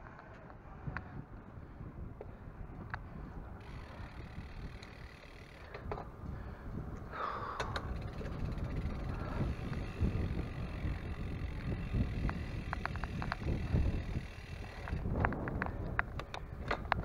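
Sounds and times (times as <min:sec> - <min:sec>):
bicycle road rumble: 0:00.0 - 0:17.0
bike clicks and rattles: 0:00.0 - 0:17.0
wind buffeting microphone: 0:00.0 - 0:17.0.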